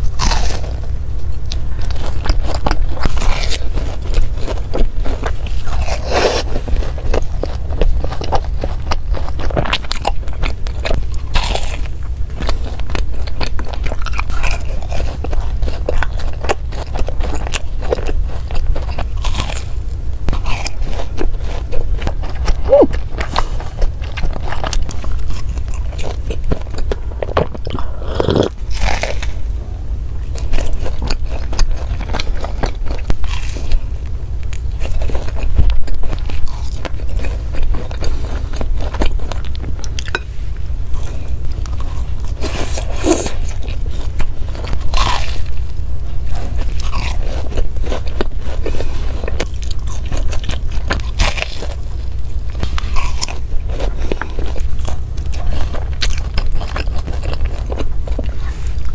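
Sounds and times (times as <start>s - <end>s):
chewing crunchy food: 0.0s - 58.9s.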